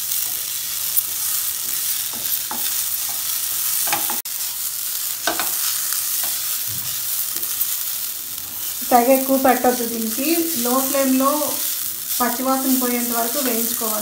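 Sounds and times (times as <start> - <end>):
coconut sizzling in a pan: 0.0 - 14.0.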